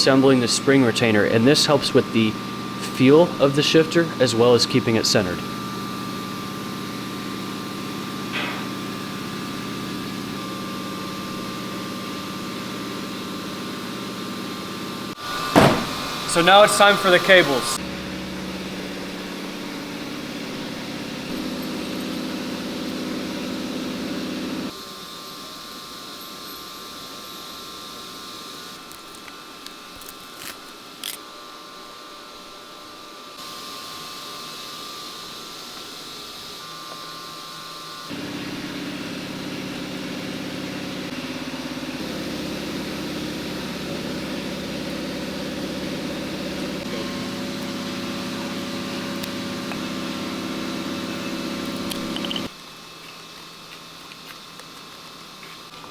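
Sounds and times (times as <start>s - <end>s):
mechanical hum with held tones: 0.0s - 55.9s.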